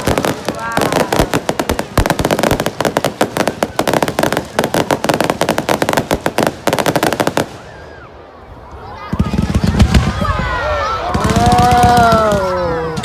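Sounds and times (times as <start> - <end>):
fireworks bangs and crackles: 0.0 - 8.0, 9.1 - 13.0.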